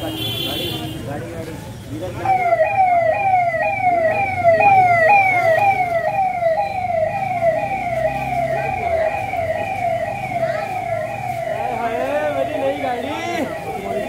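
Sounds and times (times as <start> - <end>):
siren yelping: 2.2 - 14.0.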